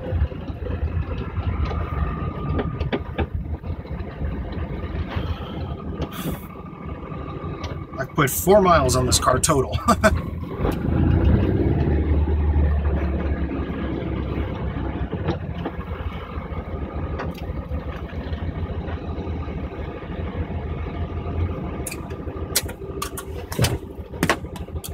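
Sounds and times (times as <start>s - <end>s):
car engine running from inside cabin: 0.0s - 24.9s.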